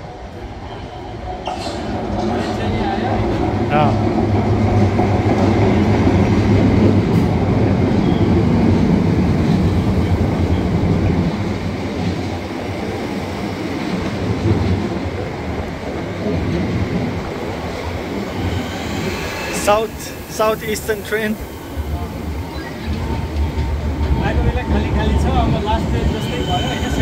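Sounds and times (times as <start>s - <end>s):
electric train rumbling past: 0.0s - 27.0s.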